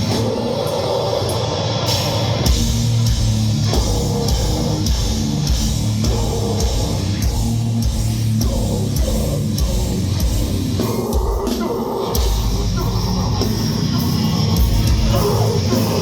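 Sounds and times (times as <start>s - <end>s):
drum and cymbal hits: 0.0s - 16.0s
heavy distorted guitars and bass: 0.0s - 16.0s.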